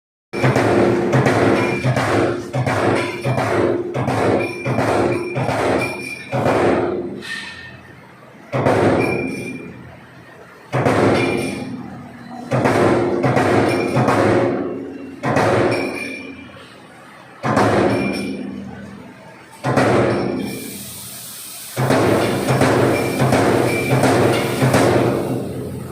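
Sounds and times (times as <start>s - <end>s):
punch press striking sheet metal: 0.4s - 18.8s, 19.5s - 21.0s, 21.7s - 25.9s.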